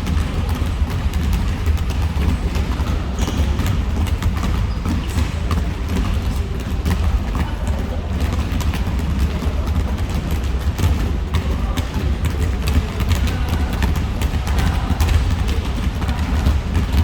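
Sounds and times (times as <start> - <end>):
basketballs bouncing: 0.0 - 17.0.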